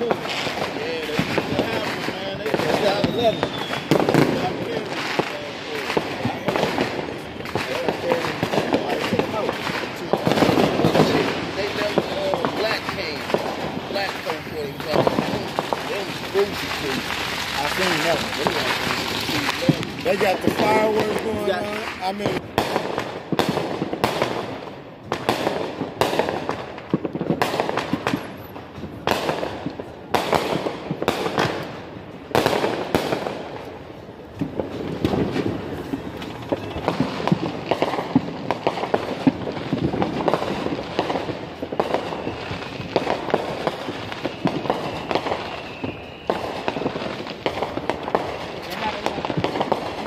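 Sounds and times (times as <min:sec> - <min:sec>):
fireworks bangs: 0:00.0 - 0:50.0
fireworks crackling: 0:00.0 - 0:50.0.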